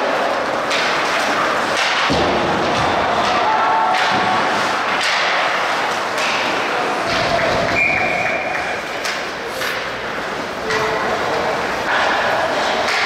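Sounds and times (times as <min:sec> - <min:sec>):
puck and sticks thudding: 0:00.0 - 0:10.0, 0:10.6 - 0:13.0
arena noise: 0:00.0 - 0:13.0.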